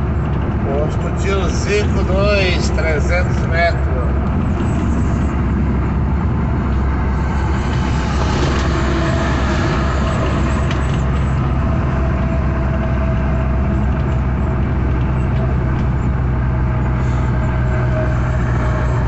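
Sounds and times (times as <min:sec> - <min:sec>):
truck diesel engine droning: 0:00.0 - 0:19.0.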